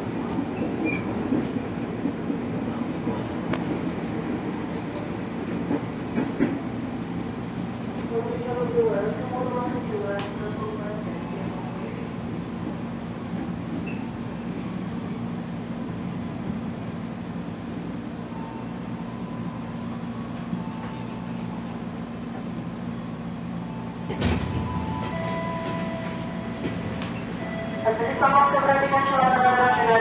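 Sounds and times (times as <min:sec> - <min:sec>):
train motor hum and rumble: 0:00.0 - 0:30.0.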